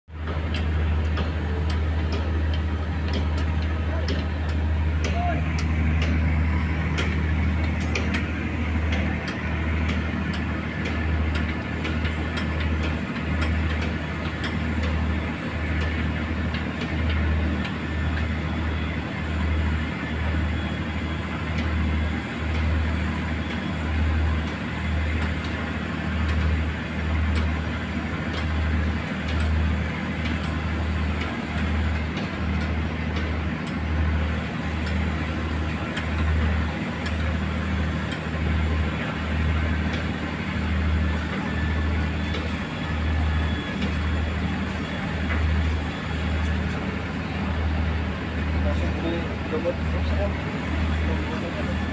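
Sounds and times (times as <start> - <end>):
boat engine throbbing rumble: 0.1 - 51.9.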